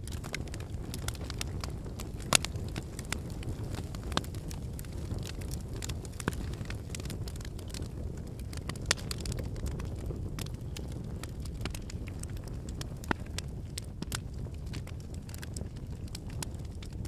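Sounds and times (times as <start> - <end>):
campfire flames rumbling: 0.0 - 17.0
firewood crackling and popping: 0.0 - 17.0.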